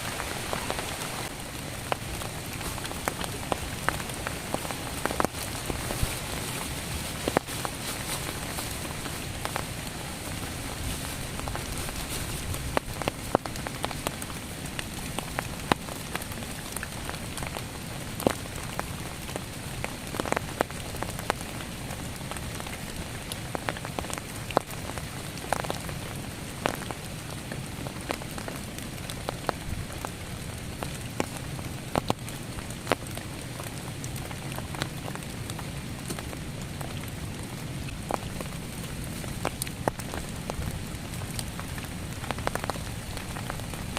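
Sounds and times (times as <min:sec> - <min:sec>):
heavy rain: 0:00.0 - 0:43.9
loud raindrops striking: 0:00.0 - 0:43.9.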